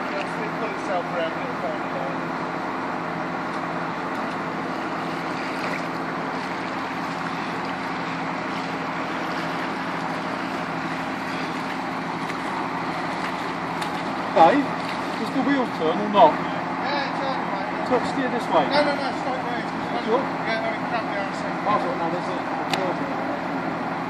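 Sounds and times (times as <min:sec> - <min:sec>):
car engine humming: 0:00.0 - 0:24.0
continuous rushing noise: 0:00.0 - 0:24.0.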